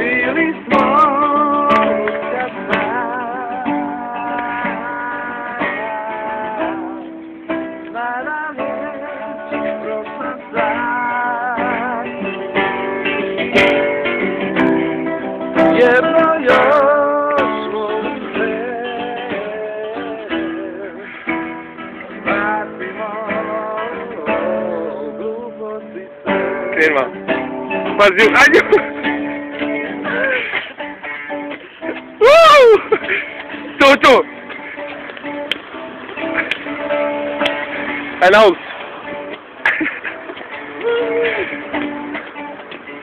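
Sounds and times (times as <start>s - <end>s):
guitar with long held notes: 0.0s - 43.0s.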